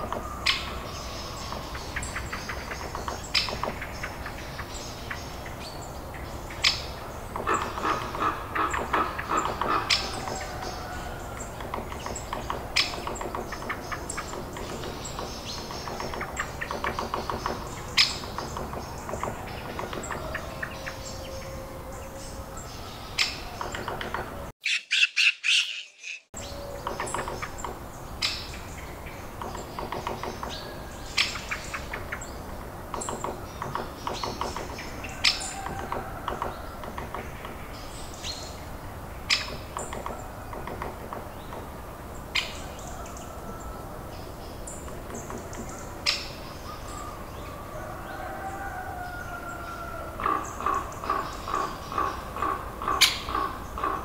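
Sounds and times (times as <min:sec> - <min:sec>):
wild birds chirping and squawking: 0:00.0 - 0:54.0.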